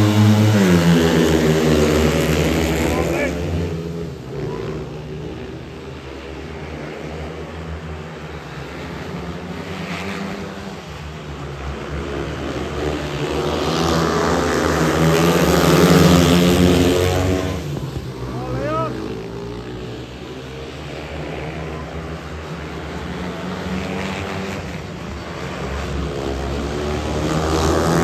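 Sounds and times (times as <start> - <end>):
motorbikes racing at full throttle: 0.0 - 28.0.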